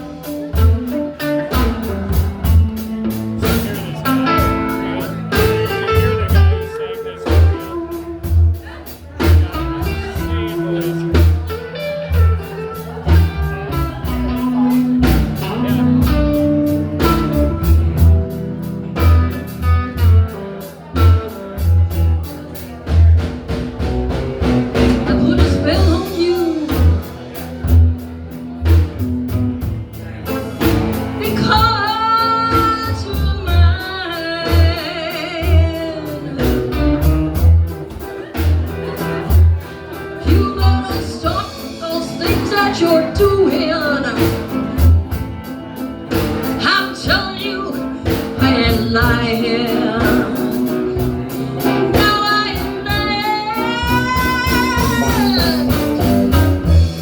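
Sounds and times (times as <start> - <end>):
bending guitar lead melody: 0.0 - 57.0
live blues band playing: 0.0 - 57.0.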